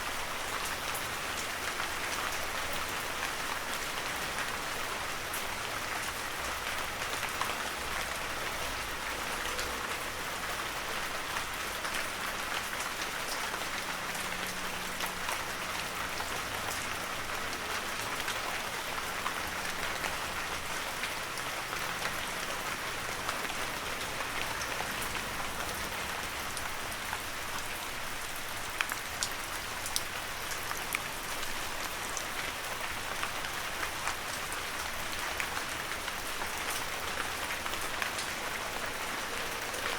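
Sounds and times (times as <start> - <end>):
heavy rain in forest: 0.0 - 39.9
raindrops ticking on leaves: 0.0 - 39.9.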